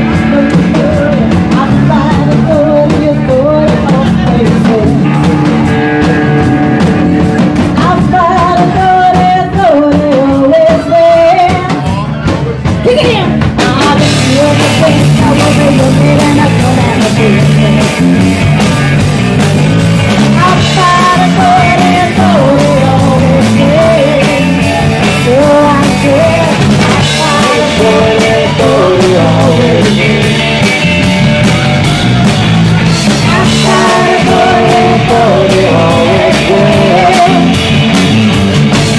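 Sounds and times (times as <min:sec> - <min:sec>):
bass guitar: 0:00.0 - 0:38.9
bending lead guitar melody: 0:00.0 - 0:38.9
drum kit beat: 0:00.0 - 0:38.9
electric guitars: 0:00.0 - 0:38.9.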